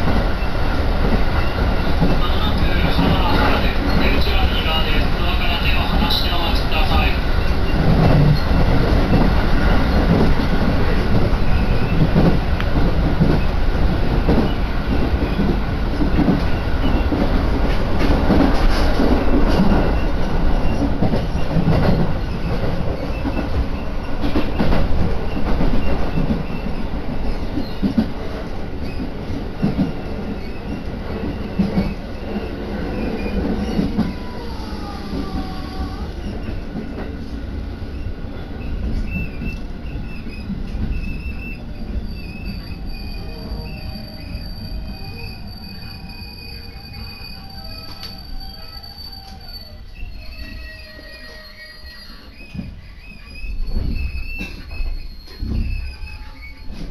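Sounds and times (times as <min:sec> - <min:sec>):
train running rumble: 0:00.0 - 0:56.9.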